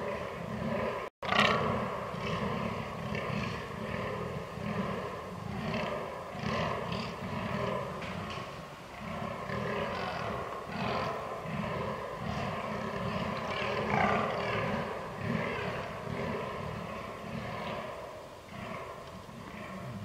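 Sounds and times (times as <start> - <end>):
deer grunting: 0.0 - 20.0.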